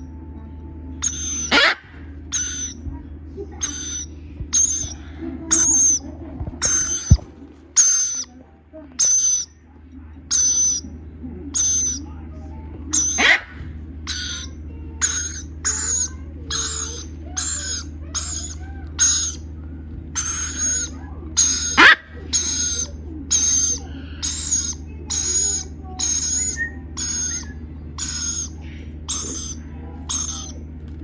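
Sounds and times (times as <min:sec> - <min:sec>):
parrot chicks rasping calls: 0:01.0 - 0:02.9, 0:03.5 - 0:08.4, 0:09.0 - 0:09.6, 0:10.3 - 0:12.1, 0:12.9 - 0:30.8.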